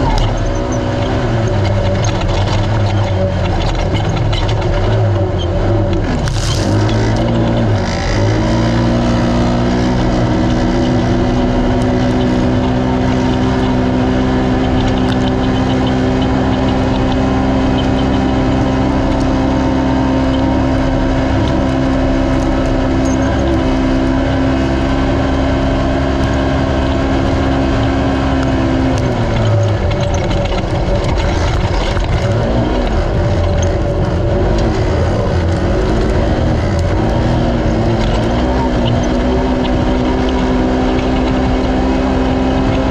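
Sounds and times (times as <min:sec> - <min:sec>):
rush of noise: 0:00.0 - 0:16.5, 0:19.2 - 0:42.9
engine revving at high speed: 0:00.0 - 0:42.9.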